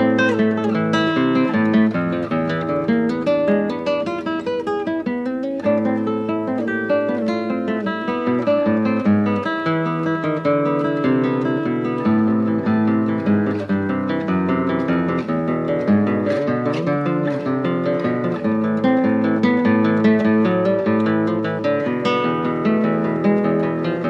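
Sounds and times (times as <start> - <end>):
acoustic guitar music: 0.0 - 24.0.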